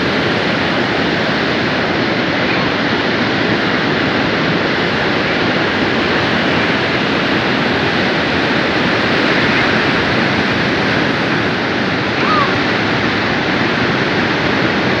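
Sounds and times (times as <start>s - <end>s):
strong wind: 0.0s - 15.0s
waves pounding a pier: 0.0s - 15.0s.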